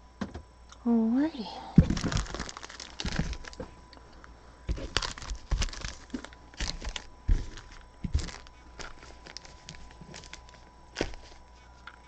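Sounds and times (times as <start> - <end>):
wrappers crinkling: 1.8 - 11.9.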